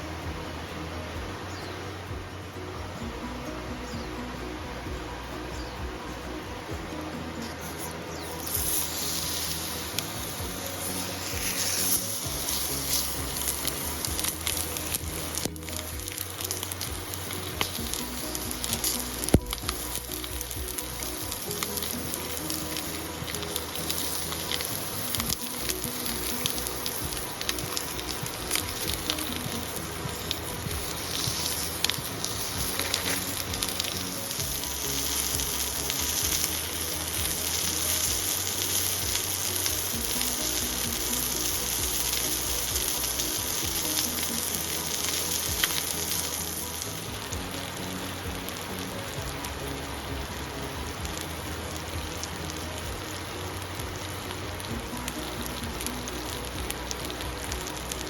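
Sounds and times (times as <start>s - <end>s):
faint background music: 0.0s - 58.0s
food sizzling in a pan: 5.4s - 58.0s.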